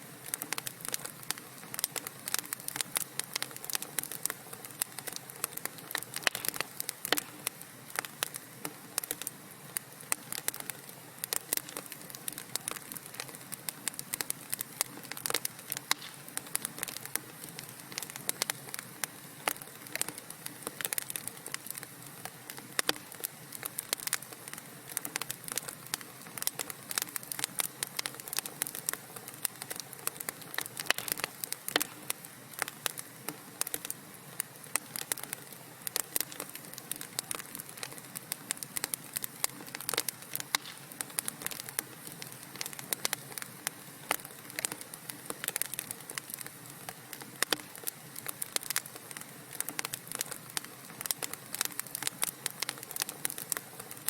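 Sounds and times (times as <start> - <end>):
fire hiss: 0.0 - 54.0
wood fire crackling and popping: 0.0 - 54.0.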